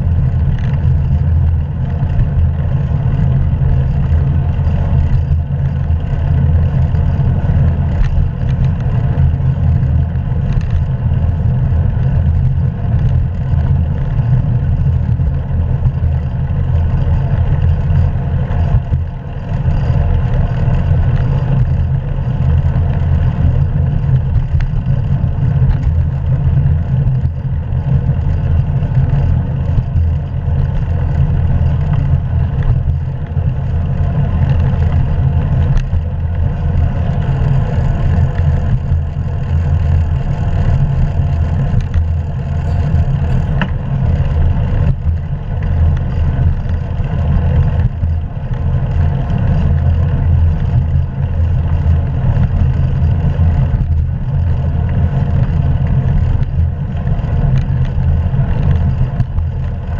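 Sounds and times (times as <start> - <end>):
bicycle tyre noise: 0.0 - 59.9.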